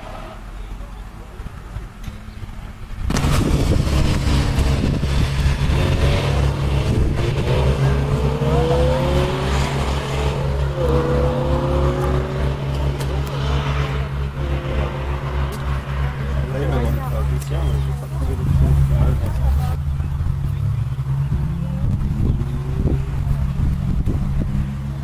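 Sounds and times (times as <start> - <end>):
sports car engine accelerating: 0.0 - 25.0.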